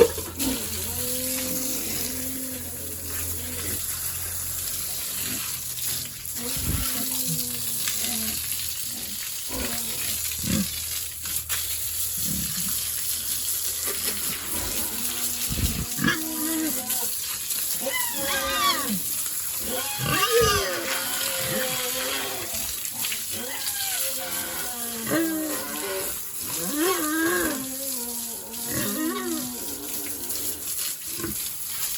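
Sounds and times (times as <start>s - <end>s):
pigs grunting and squealing: 0.0s - 11.0s, 13.8s - 31.5s
running water: 0.0s - 31.9s.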